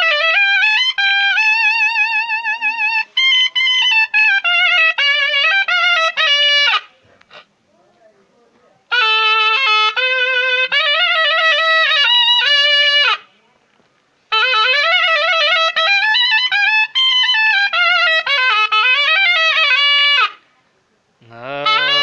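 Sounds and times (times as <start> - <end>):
shehnai folk melody: 0.0 - 7.6, 8.8 - 13.5, 14.2 - 20.5, 21.2 - 22.0.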